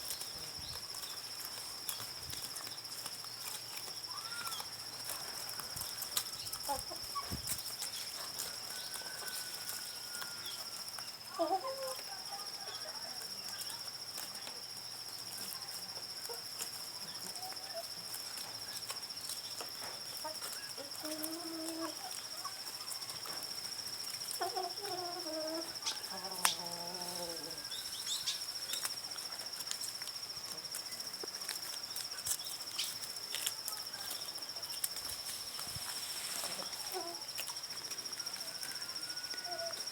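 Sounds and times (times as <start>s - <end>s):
insect trilling: 0.0s - 39.9s
chickens clucking: 5.1s - 14.5s, 15.4s - 39.9s.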